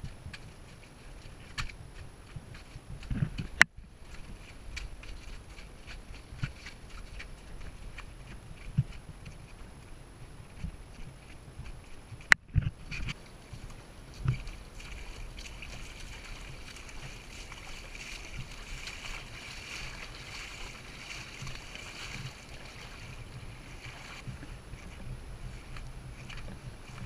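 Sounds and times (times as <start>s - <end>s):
water lapping among boulders: 0.0s - 27.0s.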